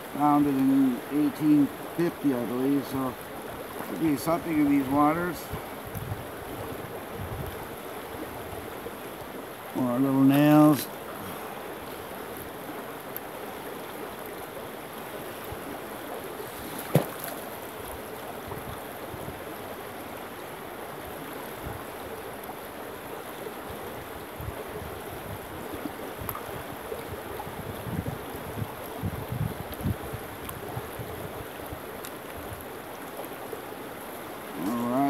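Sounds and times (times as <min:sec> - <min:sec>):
stream running over rocks: 0:00.0 - 0:35.0.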